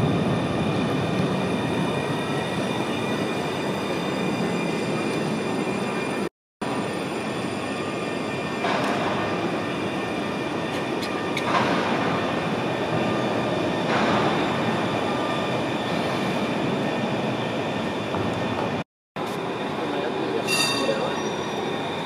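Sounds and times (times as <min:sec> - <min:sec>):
tram rolling rumble: 0:00.0 - 0:22.0.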